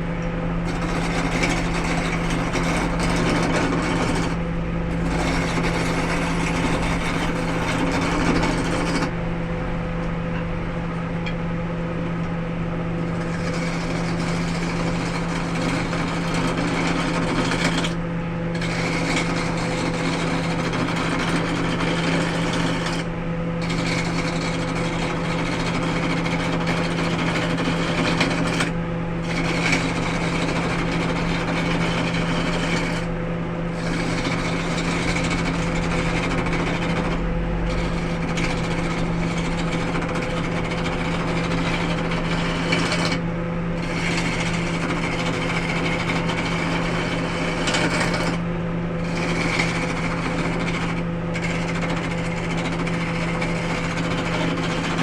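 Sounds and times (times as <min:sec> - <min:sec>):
tool working spinning wood: 0:00.6 - 0:09.2, 0:13.0 - 0:55.0
lathe motor hum: 0:00.6 - 0:09.9, 0:13.0 - 0:55.0.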